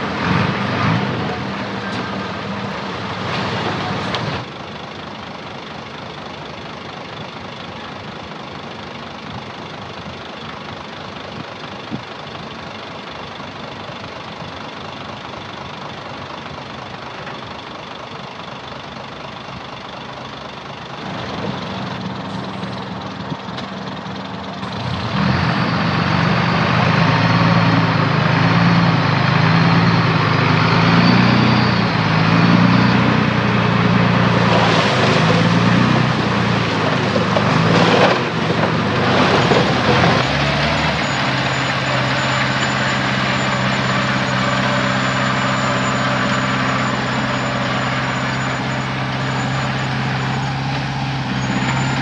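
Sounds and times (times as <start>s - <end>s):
heavy diesel engine working: 0.0s - 52.0s.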